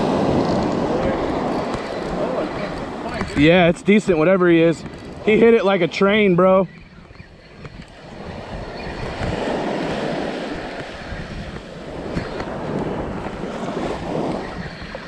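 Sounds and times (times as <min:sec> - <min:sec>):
surf washing up a beach: 0:00.0 - 0:15.0
wind rumbling on microphone: 0:00.0 - 0:15.0.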